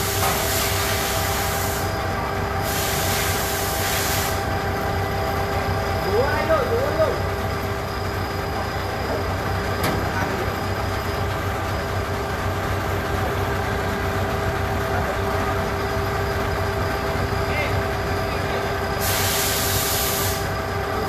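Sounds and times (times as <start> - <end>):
steady whine: 0.0 - 19.0
heavy vehicle engine running: 0.0 - 21.0.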